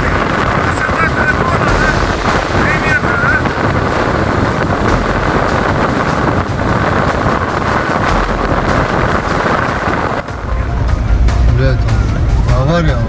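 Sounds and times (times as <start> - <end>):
vehicle engine running: 0.0 - 11.7
strong wind on microphone: 0.0 - 13.0.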